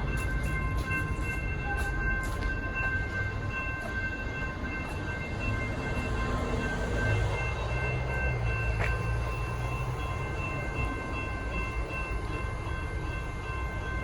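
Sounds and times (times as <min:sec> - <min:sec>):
level crossing bell ringing: 0:00.0 - 0:14.0.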